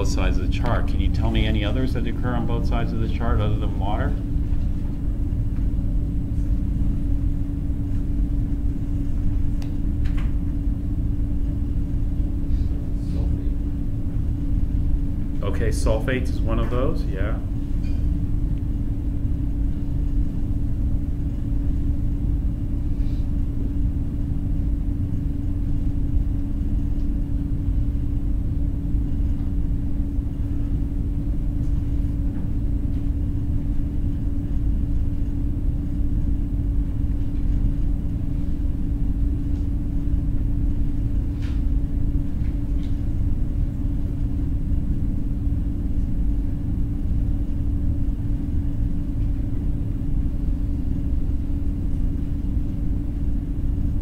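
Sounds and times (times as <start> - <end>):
constant hum: 0.0 - 54.0.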